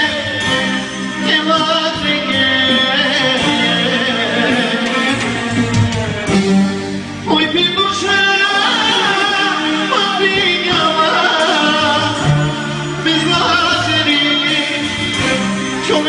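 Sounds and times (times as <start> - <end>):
man singing into microphone: 0.0 - 6.2, 7.2 - 16.0
amplified band playing: 0.0 - 16.0.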